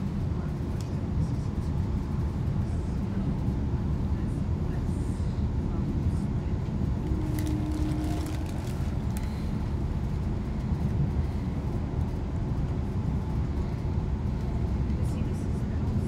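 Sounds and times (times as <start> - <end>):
diesel train rumbling at speed: 0.0 - 16.0.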